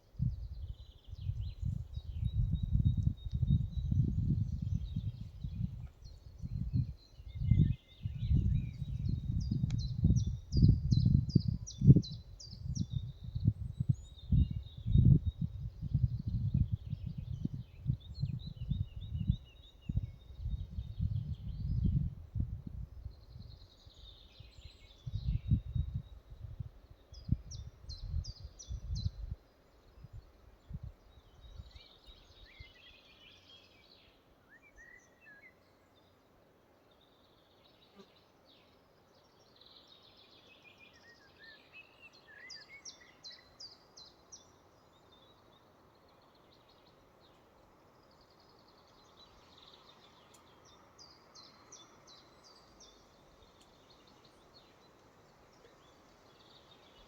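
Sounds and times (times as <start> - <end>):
birds singing chirps and trills: 0.0 - 57.0.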